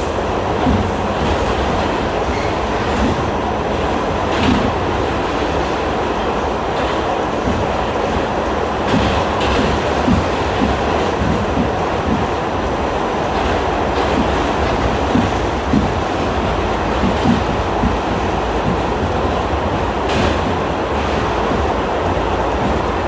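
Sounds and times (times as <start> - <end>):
subway train rumble and rattle: 0.0 - 23.0.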